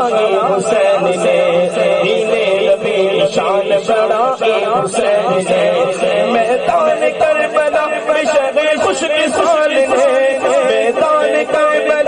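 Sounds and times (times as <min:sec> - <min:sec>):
man singing through a microphone: 0:00.0 - 0:12.0.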